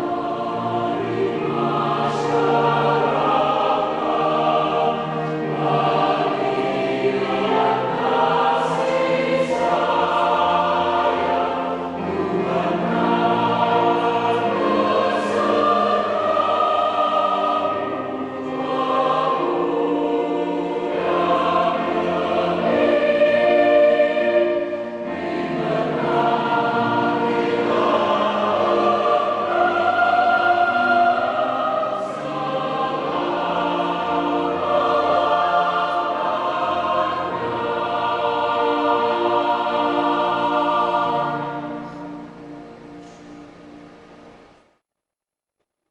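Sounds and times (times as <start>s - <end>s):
choir singing a hymn: 0.0s - 44.5s.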